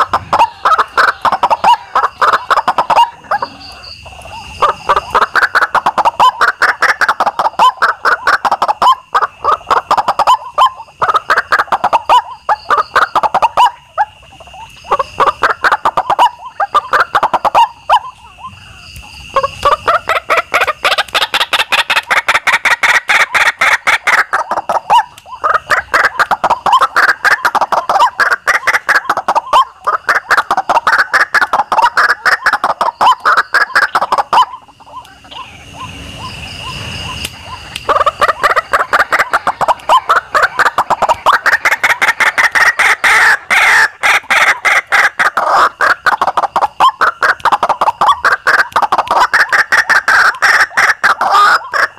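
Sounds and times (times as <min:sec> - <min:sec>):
waterhen harsh repeated calls: 0:00.0 - 0:51.9.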